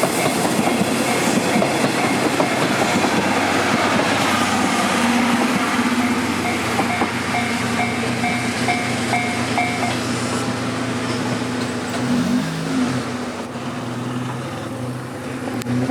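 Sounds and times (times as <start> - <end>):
train low hum: 0.0 - 15.9.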